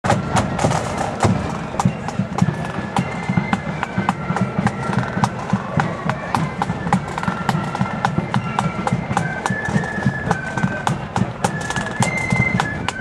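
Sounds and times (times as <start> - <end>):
flutes playing melody: 0.1 - 13.0.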